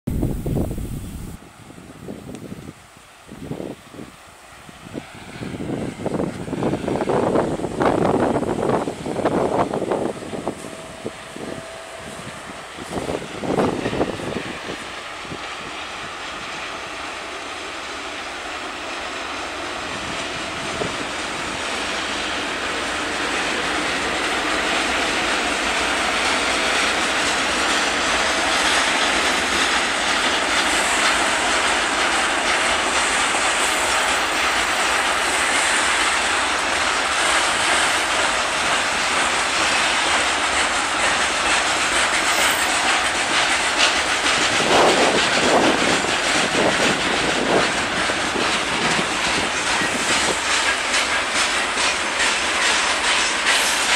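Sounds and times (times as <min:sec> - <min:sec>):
freight train passing: 0:00.1 - 0:53.9.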